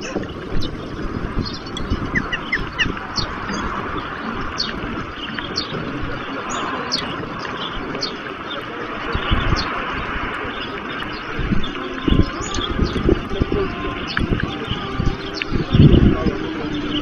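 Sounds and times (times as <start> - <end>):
heavy rain hiss: 0.0 - 17.0
small birds chirping: 0.0 - 17.0
wind on microphone: 0.0 - 17.0.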